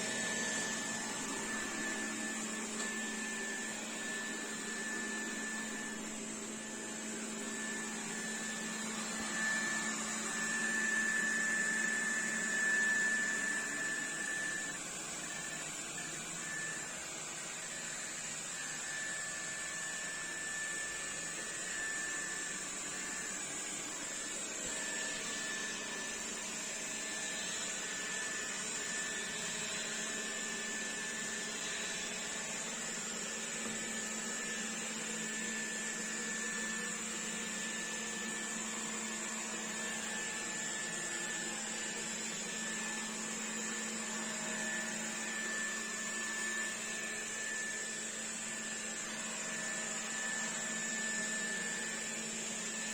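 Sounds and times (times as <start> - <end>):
robot vacuum running: 0.0 - 52.9.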